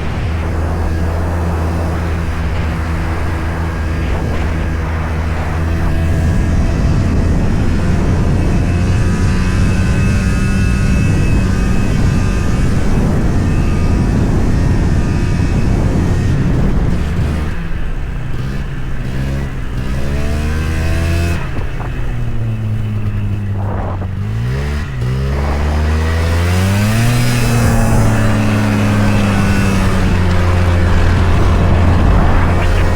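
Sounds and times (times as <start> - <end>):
snowmobile engine running: 0.0 - 32.9.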